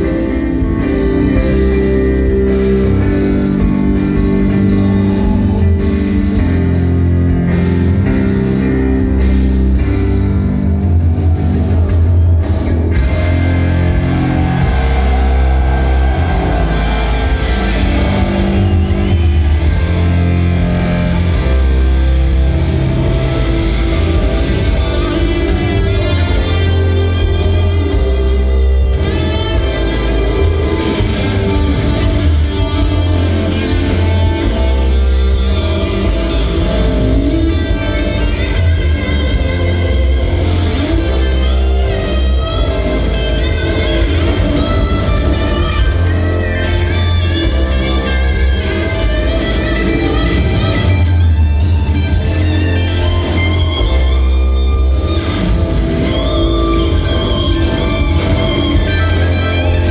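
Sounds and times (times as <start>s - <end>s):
electric guitar lead lines: 0.0s - 59.9s
rock band playing live: 0.0s - 59.9s.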